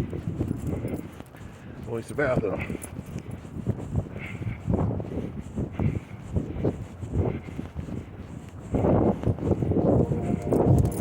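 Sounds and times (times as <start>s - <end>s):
footsteps: 0.0s - 11.0s
rustling on microphone: 0.0s - 11.0s
wind noise: 0.0s - 11.0s.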